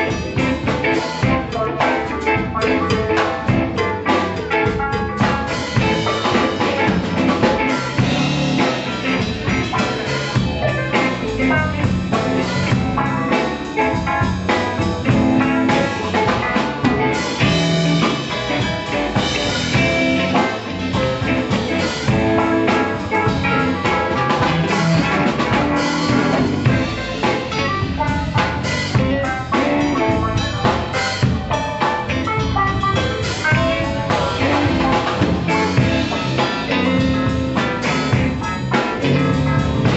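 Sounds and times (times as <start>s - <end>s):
drum kit: 0.0s - 39.9s
electric bass: 0.0s - 39.9s
electric guitar: 0.0s - 39.9s
keyboard: 0.0s - 39.9s.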